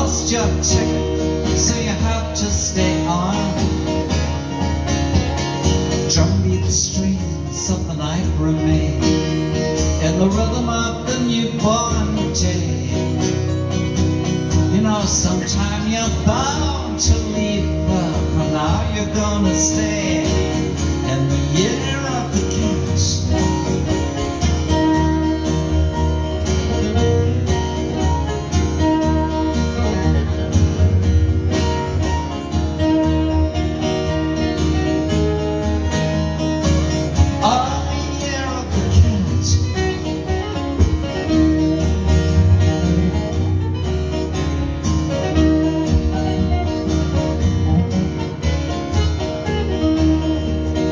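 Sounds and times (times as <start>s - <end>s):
acoustic guitar: 0.0s - 50.9s
electric guitar lead lines: 0.0s - 50.9s.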